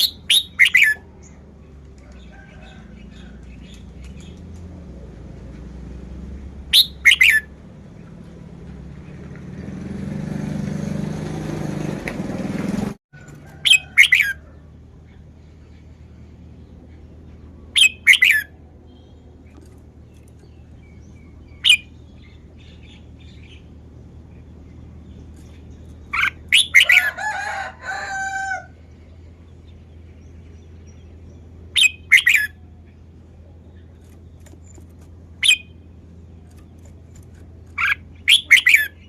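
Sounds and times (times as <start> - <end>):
bird singing: 0.0 - 4.7, 6.5 - 9.9, 13.5 - 39.0
noisy rumble: 0.0 - 39.0.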